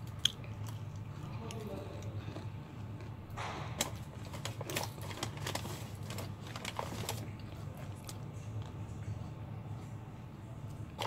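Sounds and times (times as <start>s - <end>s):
crunchy chewing of fried chicken: 0.0s - 9.4s
steady low hum: 0.0s - 11.0s.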